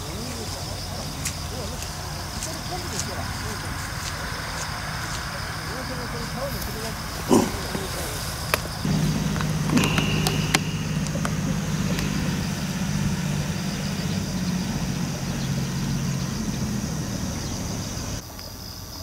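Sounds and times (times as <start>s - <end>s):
low engine-like hum: 0.0s - 18.2s
insects chirping: 0.0s - 19.0s.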